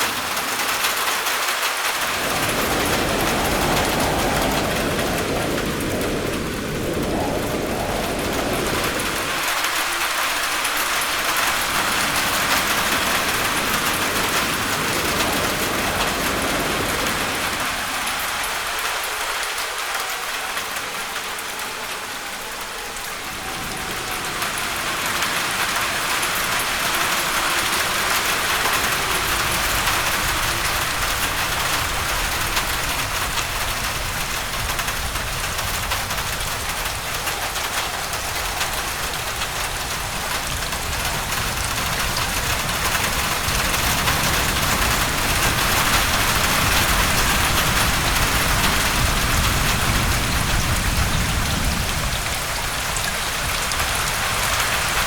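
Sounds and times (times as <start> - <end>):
heavy rain on a roof: 0.0 - 55.0
wind: 0.0 - 55.0.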